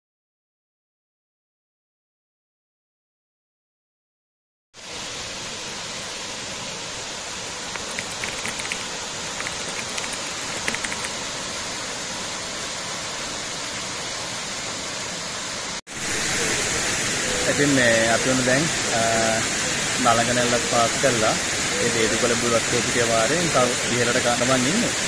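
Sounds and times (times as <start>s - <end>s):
waterfall rushing over rock: 4.8s - 25.0s.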